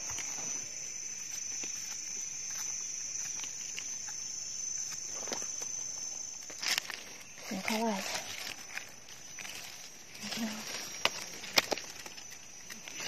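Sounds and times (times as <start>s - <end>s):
dry leaves rustling: 0.0s - 13.0s
insects droning: 0.0s - 13.0s.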